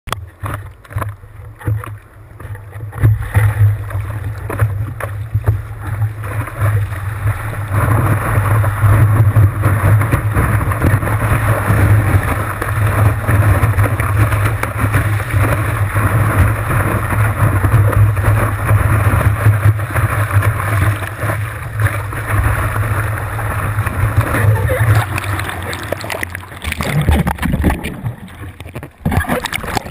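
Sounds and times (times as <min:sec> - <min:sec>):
sea water rushing and splashing: 0:00.1 - 0:29.9.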